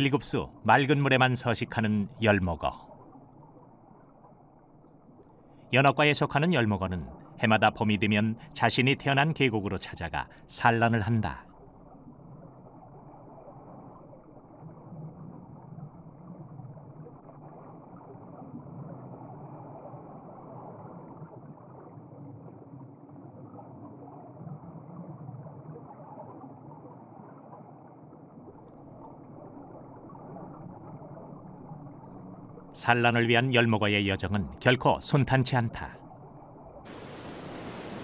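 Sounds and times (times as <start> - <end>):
muffled stream water gurgling: 0.0 - 38.0.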